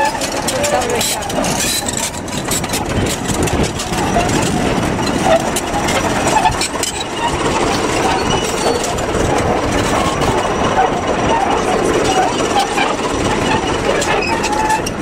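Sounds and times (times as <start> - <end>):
bulldozer engine running: 0.0 - 15.0
steel tracks clanking over stones: 0.0 - 15.0.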